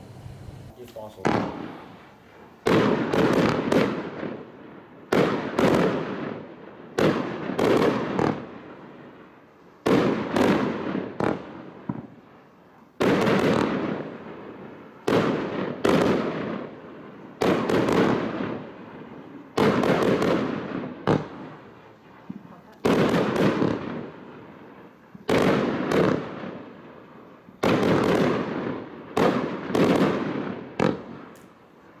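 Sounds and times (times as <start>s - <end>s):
firework bangs echoing: 0.0s - 32.0s.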